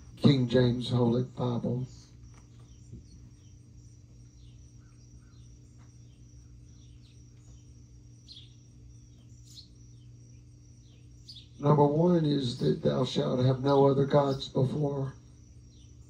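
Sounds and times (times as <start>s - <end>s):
birds chirping: 0.0s - 16.0s
high insect trill: 0.0s - 16.0s
low hum: 0.0s - 16.0s.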